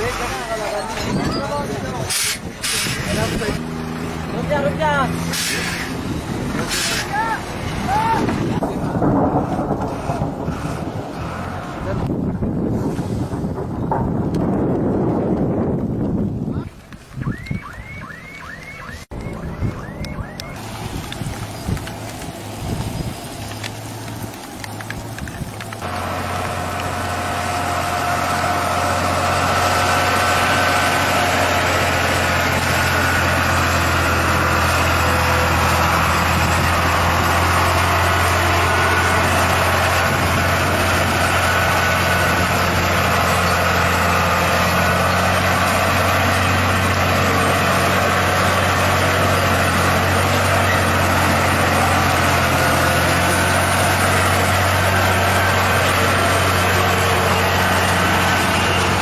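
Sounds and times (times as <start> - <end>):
heavy truck engine humming: 0.0 - 14.2, 17.8 - 59.0.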